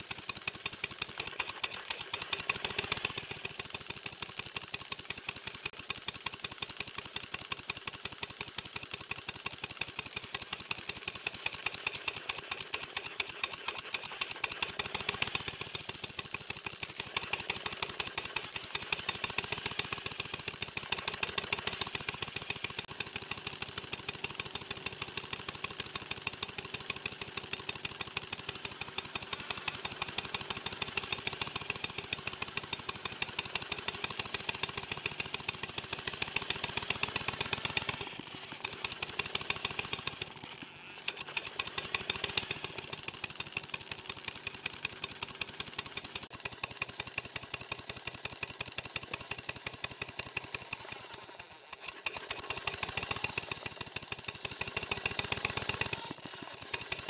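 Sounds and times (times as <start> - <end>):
model steam engine chuffing: 0.0 - 57.0.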